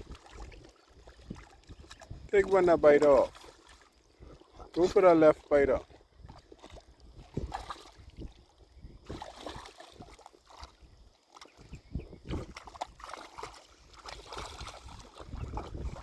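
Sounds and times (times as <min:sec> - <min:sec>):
shallow water splashing: 0:00.0 - 0:16.0.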